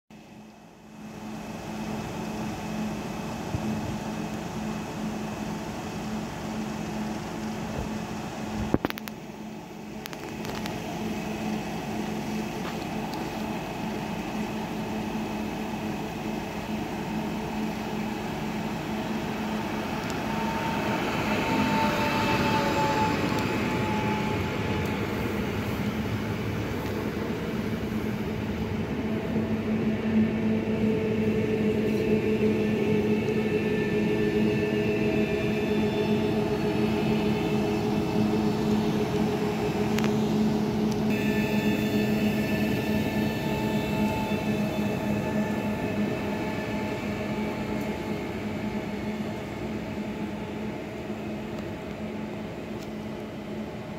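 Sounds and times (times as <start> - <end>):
electric train motor whine: 0.2 - 53.9.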